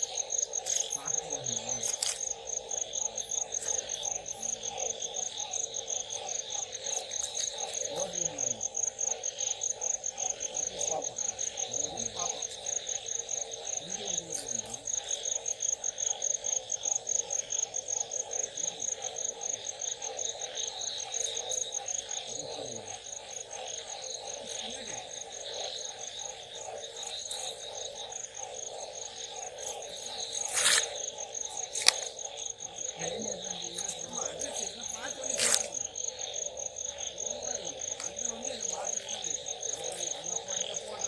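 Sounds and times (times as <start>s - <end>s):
cricket trill: 0.0s - 41.0s
pulsing frog chorus: 0.0s - 41.0s.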